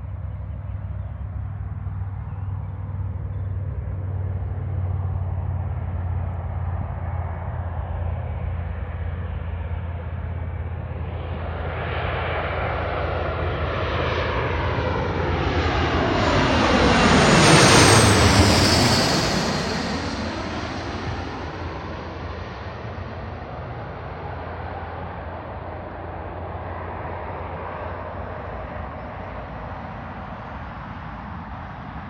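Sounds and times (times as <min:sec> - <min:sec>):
high engine whine: 0:00.0 - 0:32.0
jet airliner passing: 0:00.0 - 0:32.0.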